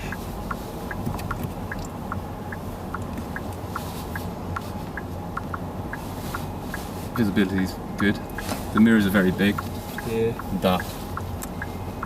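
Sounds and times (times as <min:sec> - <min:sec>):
light ticking: 0:00.0 - 0:12.0
road and tyre rumble in car: 0:00.0 - 0:12.0.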